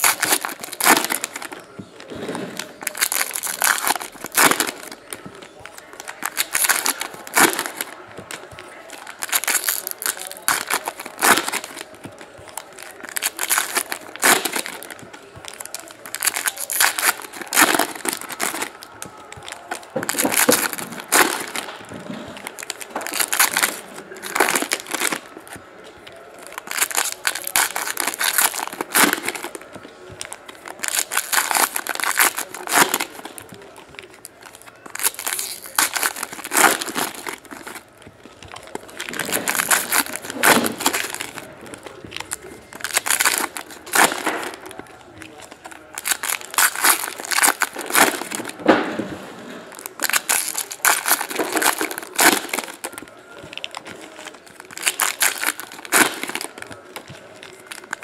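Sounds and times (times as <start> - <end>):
foil wrappers torn and crinkled: 0.0 - 25.6, 26.4 - 37.8, 38.5 - 44.8, 45.4 - 48.8, 49.7 - 58.0.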